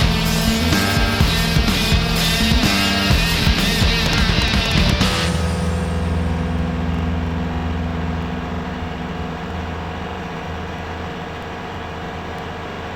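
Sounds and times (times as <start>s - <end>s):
heavy vehicle engine humming: 0.0s - 12.9s.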